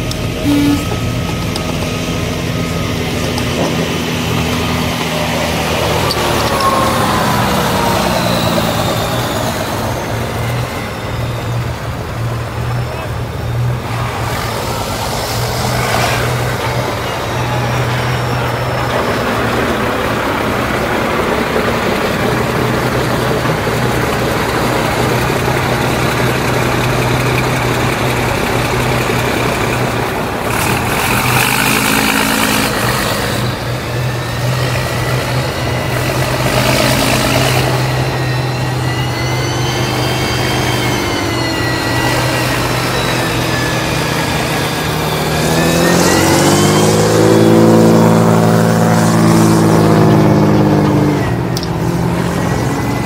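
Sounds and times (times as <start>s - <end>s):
high wavering whine: 0.0s - 53.0s
tracked vehicle engine running: 0.0s - 53.0s.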